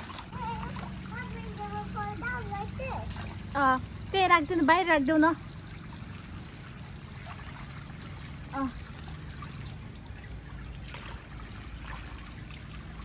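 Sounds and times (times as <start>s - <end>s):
water trickling into pool: 0.0s - 13.0s.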